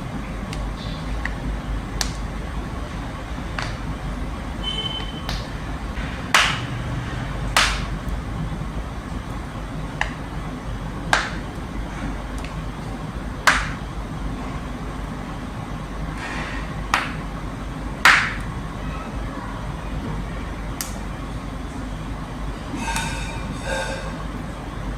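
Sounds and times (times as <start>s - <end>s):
steady low rumble: 0.0s - 22.8s.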